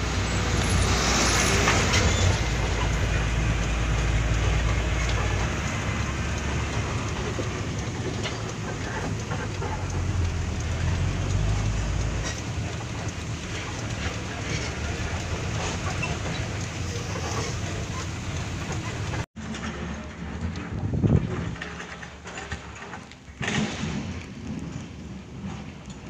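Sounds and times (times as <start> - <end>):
cab rattle and road noise: 0.0 - 26.0
diesel truck engine drone: 0.0 - 26.0.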